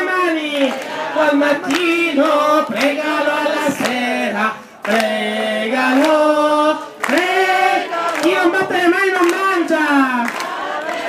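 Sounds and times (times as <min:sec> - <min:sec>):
man singing into microphone: 0:00.0 - 0:07.6, 0:08.2 - 0:10.3
voices singing a chant: 0:00.0 - 0:11.0.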